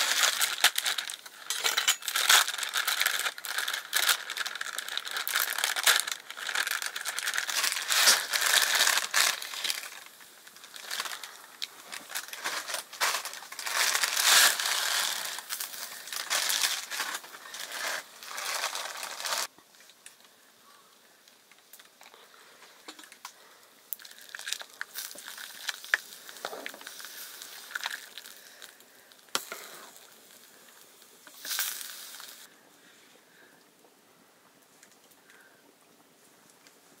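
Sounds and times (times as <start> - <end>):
crinkling crushing rustle: 0.0 - 20.3, 21.5 - 32.6.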